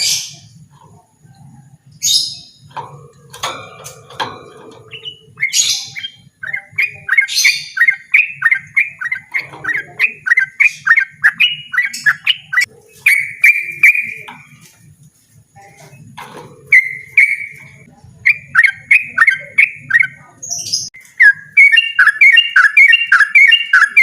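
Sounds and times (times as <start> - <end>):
bulbul singing: 0.0 - 14.8, 15.6 - 24.0
harsh bird calls and clicks: 0.0 - 15.0, 15.7 - 24.0.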